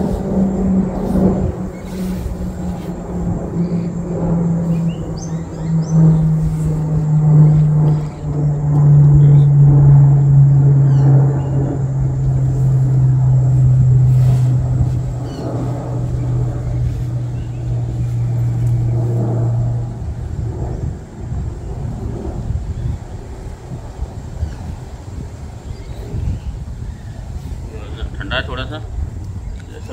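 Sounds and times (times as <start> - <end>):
low motor hum: 0.0 - 29.9.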